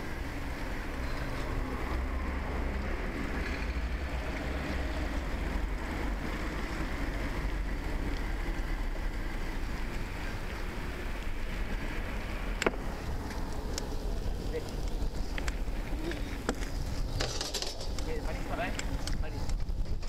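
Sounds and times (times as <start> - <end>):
tyres rolling on wet pavement: 0.0 - 20.0
wind rumble on microphone: 0.0 - 20.0.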